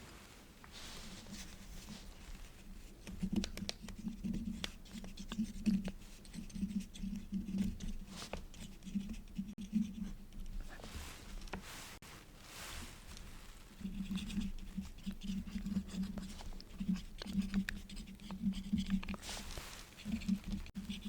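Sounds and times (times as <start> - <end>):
quill pen scratching on paper: 1.2 - 11.9, 13.8 - 21.0.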